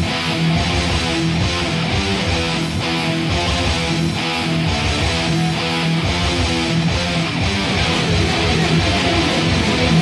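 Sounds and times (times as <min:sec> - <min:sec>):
bass guitar: 0:00.0 - 0:10.0
electric guitars: 0:00.0 - 0:10.0.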